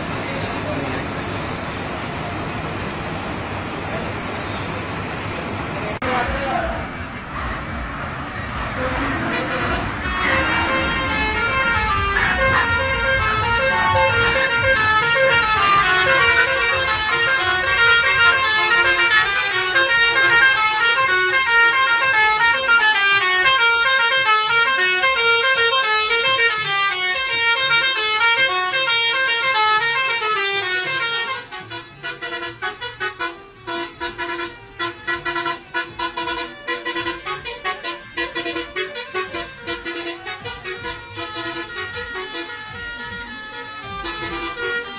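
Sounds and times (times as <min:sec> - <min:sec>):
bus musical horn melody: 0:08.6 - 0:44.9.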